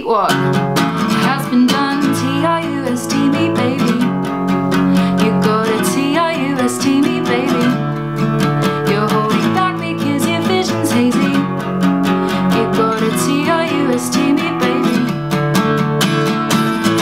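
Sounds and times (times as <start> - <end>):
woman singing: 0.0 - 4.2, 5.0 - 15.2
acoustic guitar strumming: 0.3 - 17.0.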